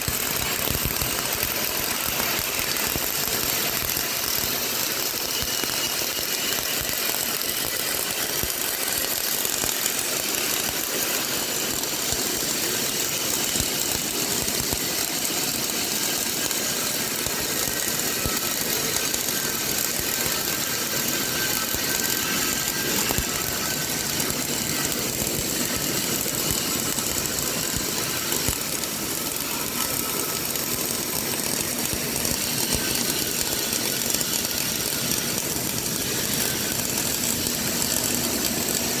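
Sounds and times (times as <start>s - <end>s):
welding arc crackling: 0.0s - 39.0s.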